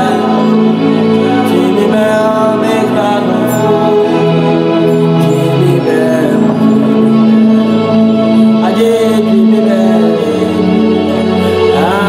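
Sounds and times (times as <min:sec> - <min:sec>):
slow gospel song: 0:00.0 - 0:12.0.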